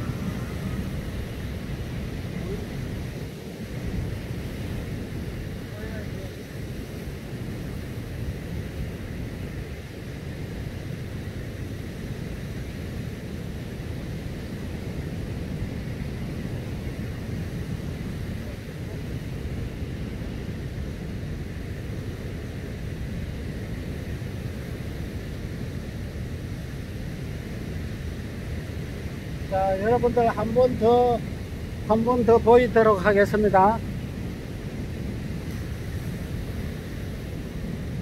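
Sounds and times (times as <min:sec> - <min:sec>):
surf breaking on beach: 0:00.0 - 0:38.0
wind buffeting microphone: 0:00.0 - 0:38.0.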